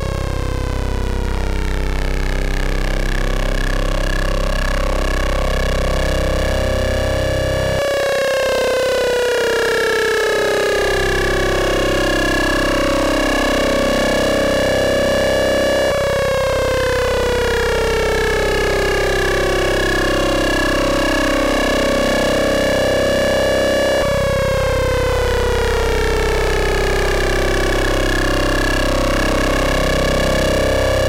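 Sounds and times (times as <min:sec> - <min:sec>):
dense synthesiser tone: 0:00.0 - 0:31.0
gliding synthesiser partials: 0:00.0 - 0:31.0.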